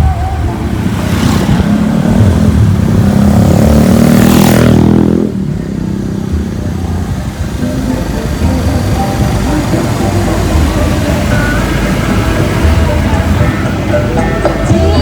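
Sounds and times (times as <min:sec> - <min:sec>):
vehicle engine revving past: 0:00.4 - 0:14.8.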